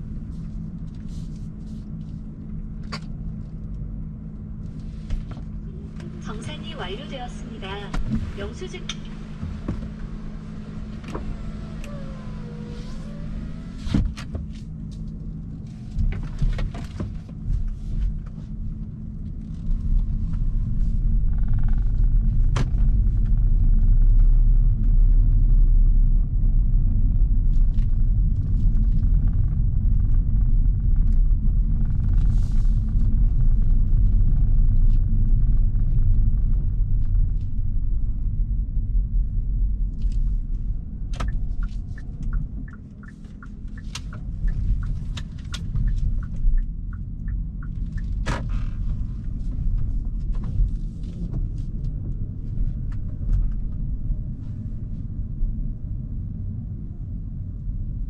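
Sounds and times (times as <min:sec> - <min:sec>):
car driving rumble: 0:00.0 - 0:58.0
low hum: 0:00.0 - 0:58.0.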